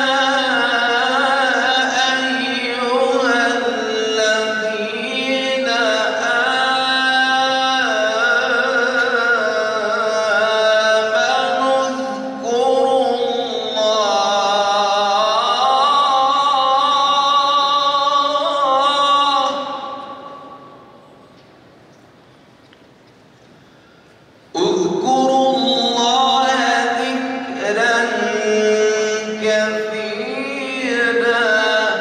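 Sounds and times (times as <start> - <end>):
man reciting melodically: 0.0 - 21.0, 24.5 - 32.0.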